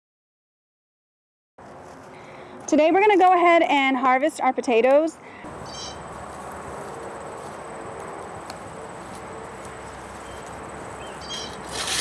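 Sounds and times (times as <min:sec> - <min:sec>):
outdoor background hiss: 0:01.6 - 0:12.0.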